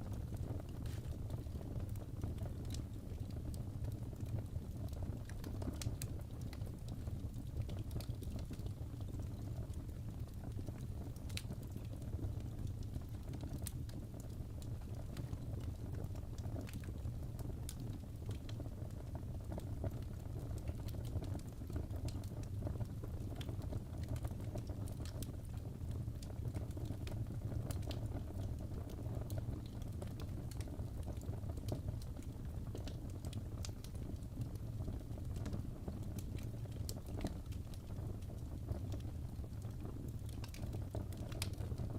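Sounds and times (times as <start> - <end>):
fire pops and crackles: 0.0 - 41.9
fireplace burning rumble: 0.0 - 41.9.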